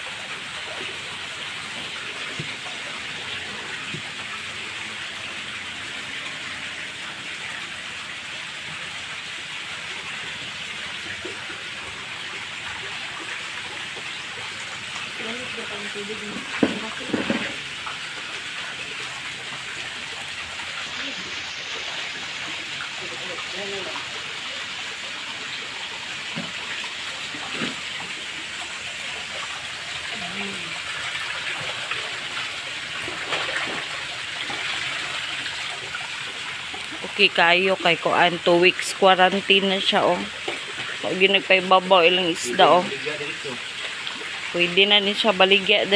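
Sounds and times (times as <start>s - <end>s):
splashing running water: 0.0s - 45.9s.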